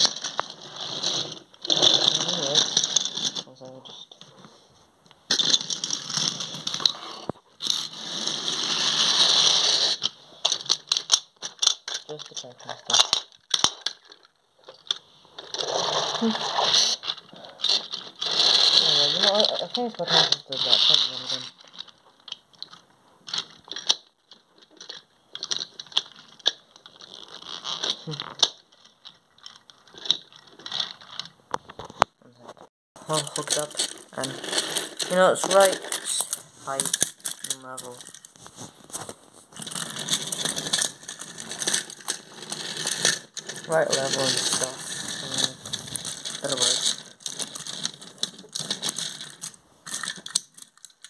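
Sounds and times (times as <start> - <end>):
plastic toy pieces scraping: 0.0 - 4.4, 5.3 - 32.1, 33.0 - 51.0.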